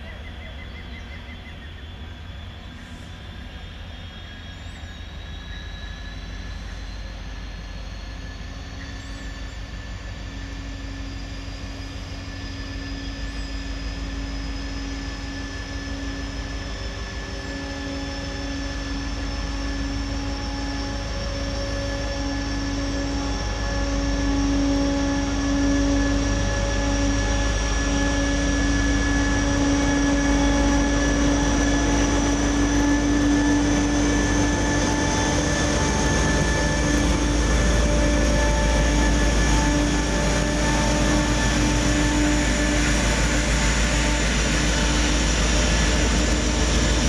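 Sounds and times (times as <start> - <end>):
diesel locomotive engine rumble: 0.0 - 47.0
rising engine whine: 0.0 - 47.0.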